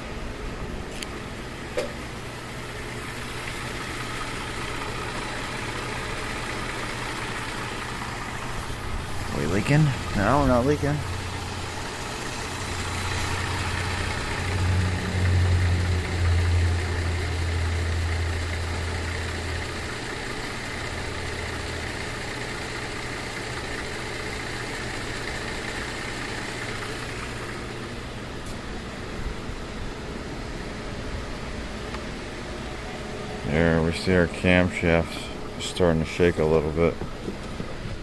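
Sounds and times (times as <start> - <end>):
car engine idling rough: 2.1 - 38.0.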